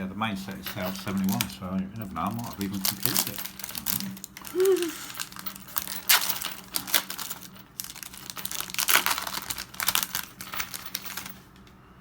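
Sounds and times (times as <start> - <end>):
foil wrappers crinkling and tearing: 0.9 - 11.5.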